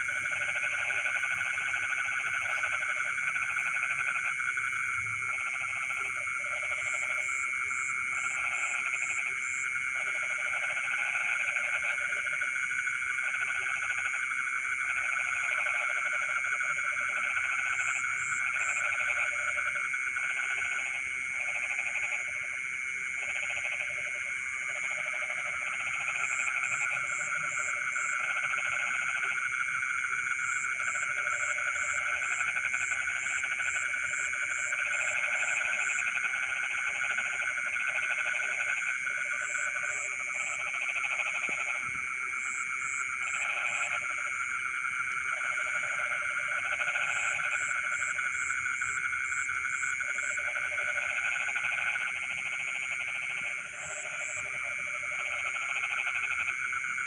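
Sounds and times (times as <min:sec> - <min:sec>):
frogs croaking: 0:00.0 - 0:57.0
high trilling frog chorus: 0:00.0 - 0:57.0.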